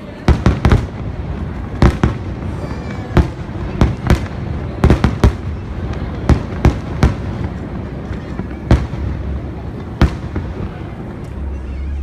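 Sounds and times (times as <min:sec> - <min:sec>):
fireworks bangs: 0:00.0 - 0:11.6.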